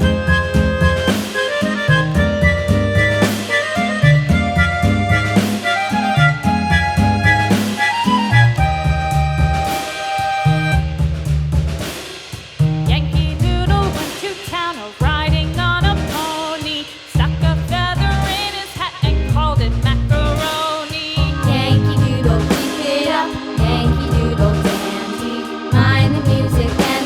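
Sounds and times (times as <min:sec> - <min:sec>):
upbeat song with drums and bass: 0:00.0 - 0:27.0.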